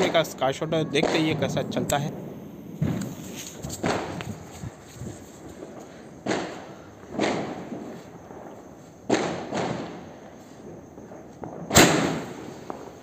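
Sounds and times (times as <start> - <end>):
firework bangs with echo: 0.0 - 4.8, 5.4 - 13.0.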